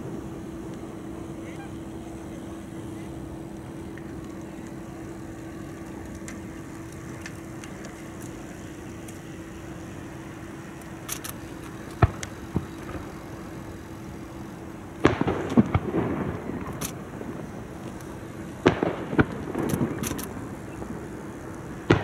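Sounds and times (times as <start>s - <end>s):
fireworks banging and crackling: 0.0s - 22.0s
steady low hum: 0.0s - 22.0s.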